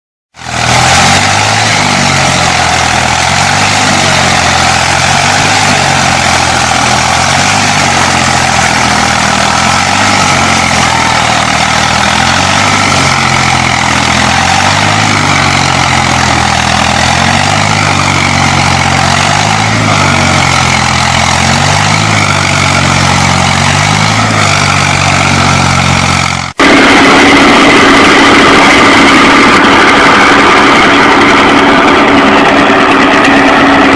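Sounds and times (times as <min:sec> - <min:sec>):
louder engine with high whine: 0:00.3 - 0:33.9
tractor engine running: 0:00.3 - 0:33.9.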